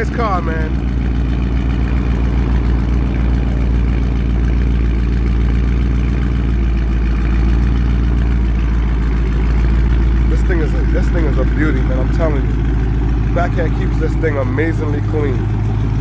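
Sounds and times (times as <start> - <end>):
car engine idling burble: 0.0 - 16.0.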